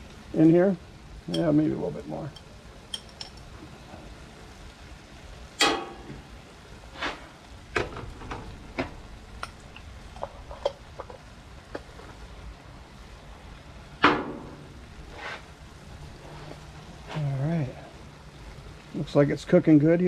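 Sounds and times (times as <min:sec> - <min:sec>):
meat sizzling faintly in skillet: 0:00.0 - 0:20.0.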